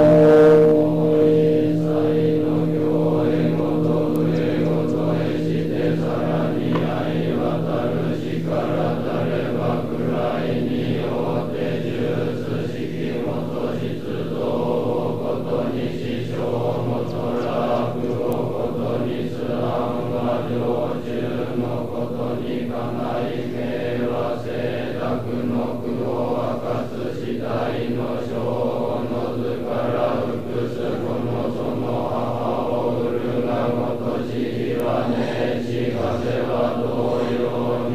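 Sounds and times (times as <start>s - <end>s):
monks chanting in unison: 0.0s - 37.9s.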